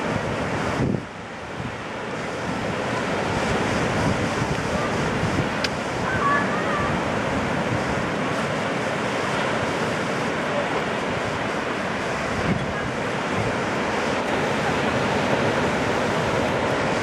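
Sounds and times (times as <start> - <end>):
small waves breaking on beach: 0.0 - 17.0
wind buffeting microphone: 0.0 - 17.0.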